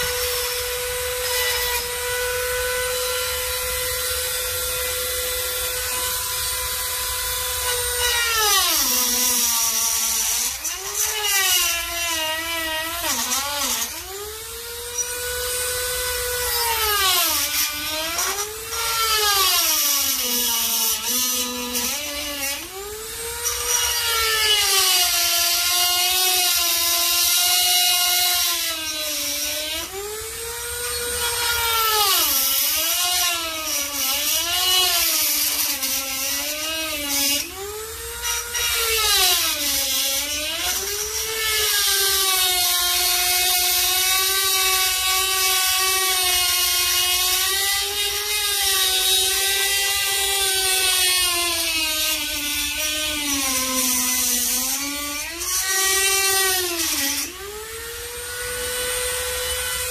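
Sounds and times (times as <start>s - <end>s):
rotary tool cutting metal: 0.0s - 59.9s.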